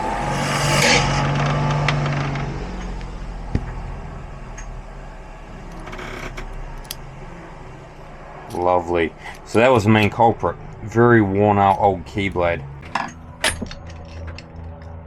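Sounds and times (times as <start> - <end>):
engine revving and passing: 0.0 - 15.0.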